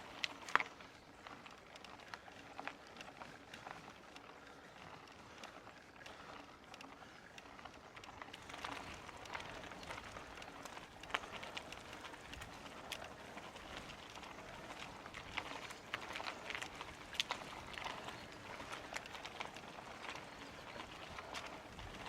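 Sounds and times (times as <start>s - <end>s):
bike clicks and rattles: 0.0s - 22.0s
bike tyres crunching on dirt: 0.0s - 22.0s.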